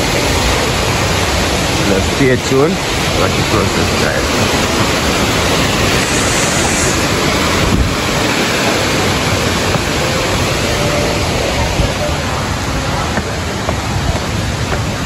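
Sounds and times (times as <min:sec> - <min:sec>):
waterfall and river rushing: 0:00.0 - 0:15.0
wind buffeting microphone: 0:00.0 - 0:15.0.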